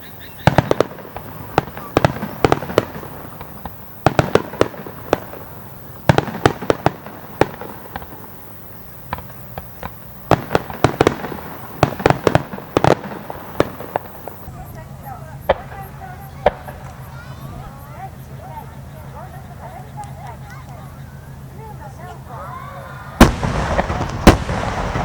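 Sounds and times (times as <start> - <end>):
fireworks bangs: 0.0 - 25.0
steady rumbling: 0.0 - 25.0.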